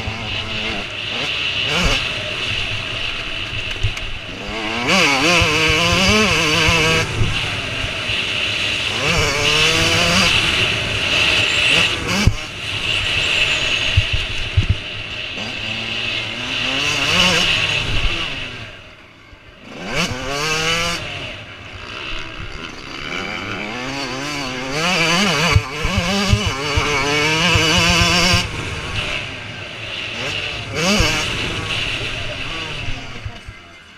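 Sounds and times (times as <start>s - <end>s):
motorbike accelerating hard: 0.0s - 18.8s, 19.6s - 33.8s
motocross bike engines revving: 0.0s - 33.9s.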